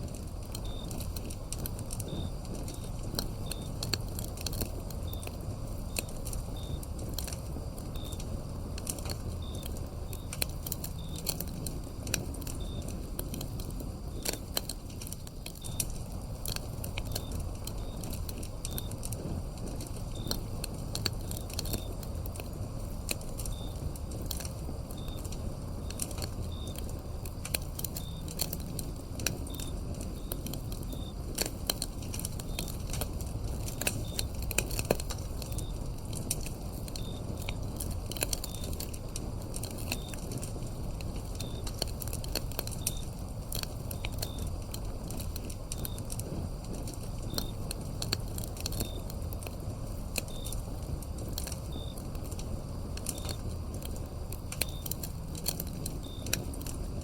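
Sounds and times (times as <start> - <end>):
firewood crackling and popping: 0.0 - 57.0
insect chirping: 0.0 - 57.0
low rumble of flame: 0.0 - 57.0.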